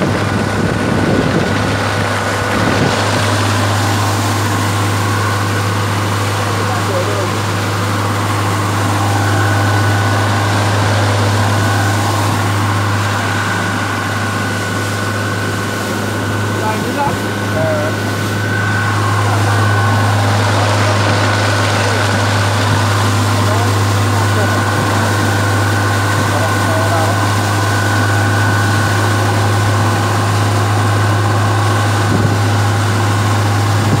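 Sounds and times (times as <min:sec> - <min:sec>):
boat engine humming: 0:00.0 - 0:34.0
rushing water: 0:00.0 - 0:34.0
wind: 0:00.0 - 0:34.0.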